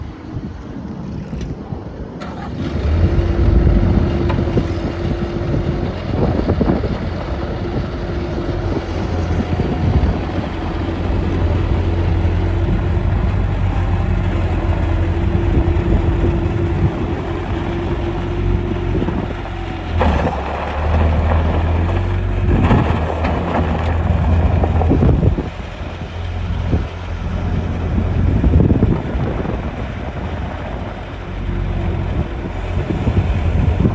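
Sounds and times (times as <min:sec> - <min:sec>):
diesel engine starting and running: 0:02.0 - 0:33.9.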